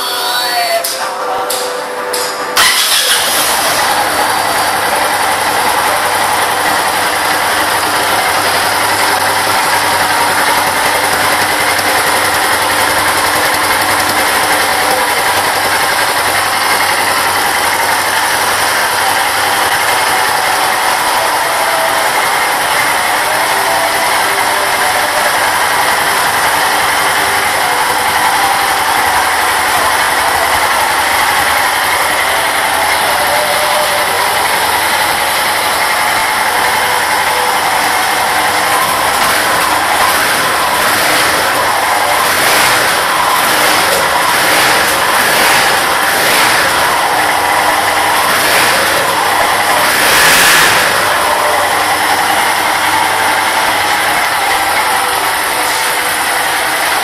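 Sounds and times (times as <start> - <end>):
motorcycle engine idling: 2.1 - 57.0.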